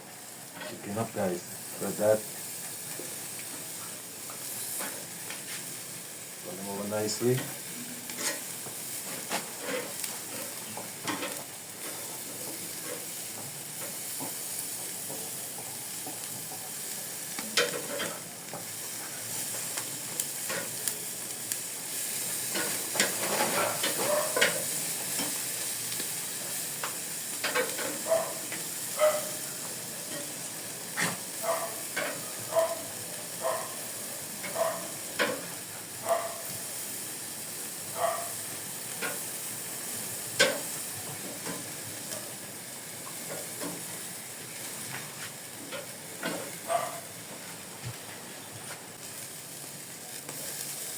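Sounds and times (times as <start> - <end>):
chicken wings sizzling on grill: 0.0 - 50.9.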